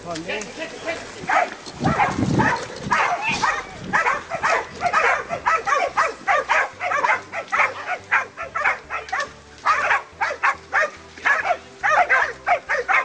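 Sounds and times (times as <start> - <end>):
dogs barking rapidly: 1.2 - 13.0.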